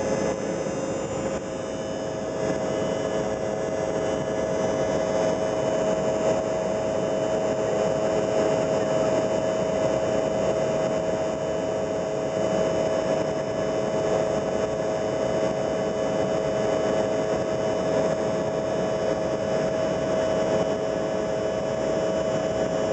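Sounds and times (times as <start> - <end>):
constant droning tone: 0.0 - 22.9
jet engine cabin noise: 0.0 - 22.9.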